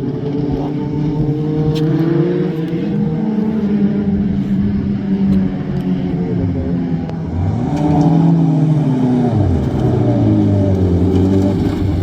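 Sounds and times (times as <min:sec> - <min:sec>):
racing engine accelerating: 0:00.0 - 0:12.0.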